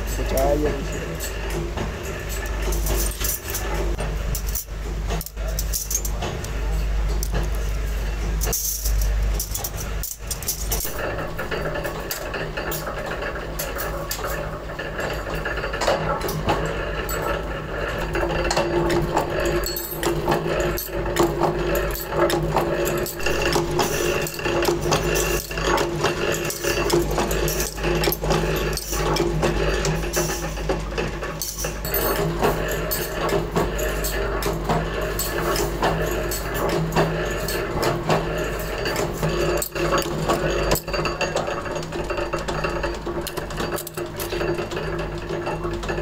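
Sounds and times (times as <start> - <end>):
steady machine tone: 0.0 - 43.0
low machine hum: 0.0 - 46.0
metal parts clattering and clicking: 0.0 - 46.0.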